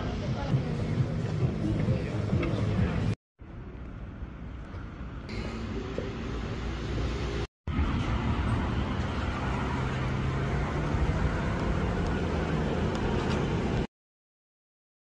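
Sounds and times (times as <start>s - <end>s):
street traffic noise: 0.0s - 13.9s.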